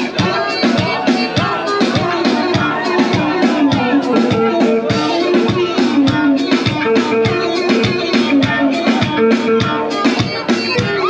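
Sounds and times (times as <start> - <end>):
folk dance music with drumbeat: 0.0 - 11.0.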